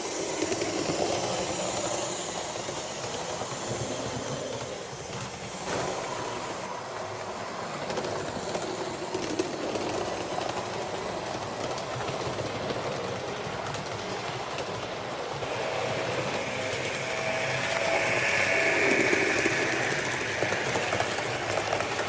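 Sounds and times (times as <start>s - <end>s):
model train rumbling: 0.0s - 22.0s.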